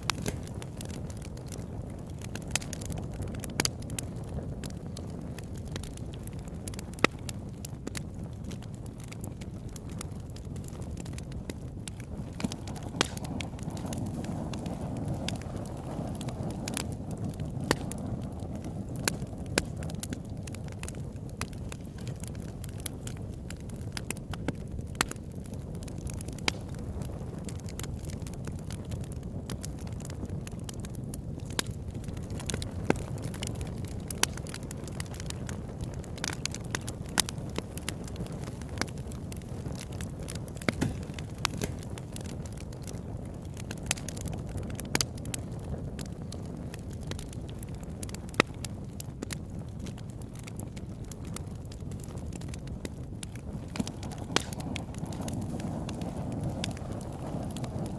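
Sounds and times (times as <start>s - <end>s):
campfire flames rushing: 0.0s - 57.9s
fire crackling and popping: 0.0s - 57.9s.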